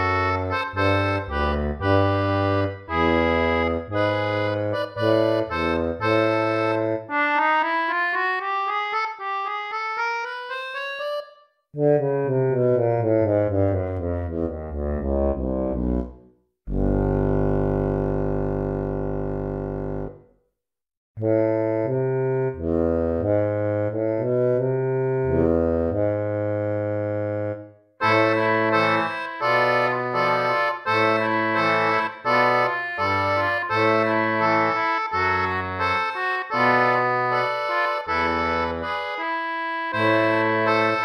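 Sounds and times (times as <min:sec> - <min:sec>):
instrumental music with chords: 0:00.0 - 0:20.4, 0:21.2 - 0:41.0.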